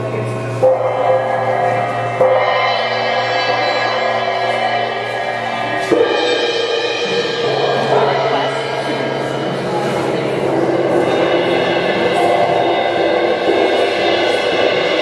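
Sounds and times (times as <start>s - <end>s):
cymbals and gongs ringing: 0.0s - 15.0s.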